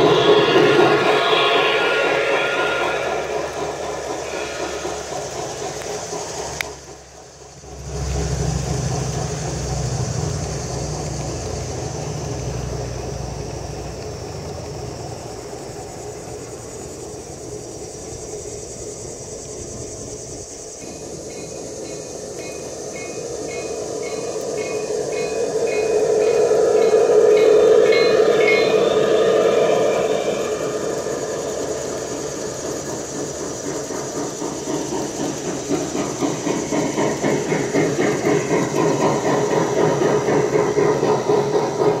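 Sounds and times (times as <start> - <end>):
model train wheels clicking on rails: 0.0 - 42.0.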